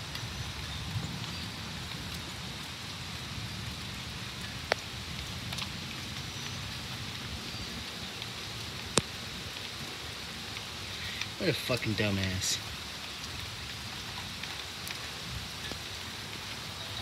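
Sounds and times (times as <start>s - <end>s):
steady rain hissing: 0.0s - 17.0s.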